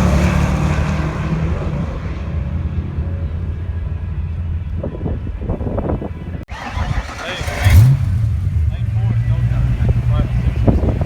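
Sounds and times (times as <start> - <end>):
car engine drone at full throttle: 0.0 - 11.0.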